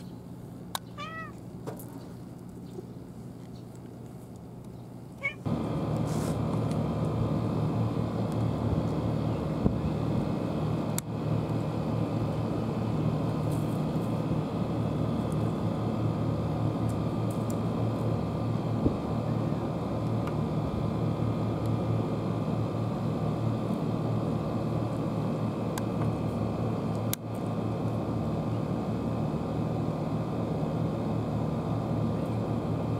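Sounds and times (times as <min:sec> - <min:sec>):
machinery humming: 0:05.0 - 0:32.9.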